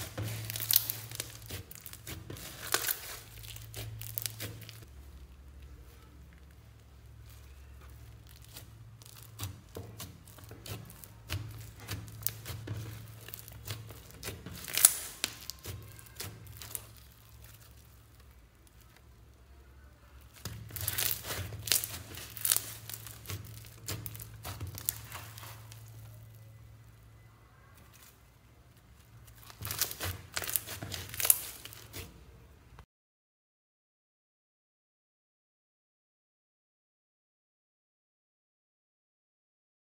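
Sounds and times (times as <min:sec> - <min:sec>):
slime crackling and squishing: 0:00.0 - 0:32.8.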